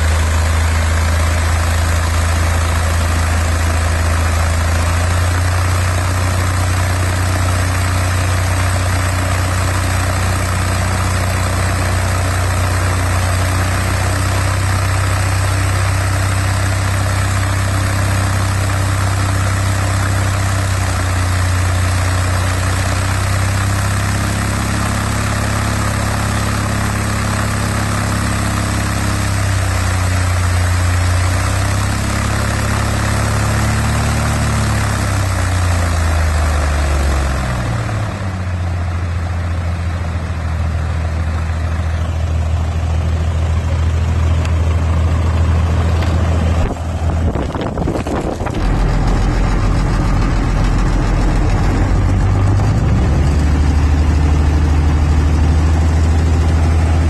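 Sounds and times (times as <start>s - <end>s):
aircraft engine and propeller running: 0.0s - 57.0s.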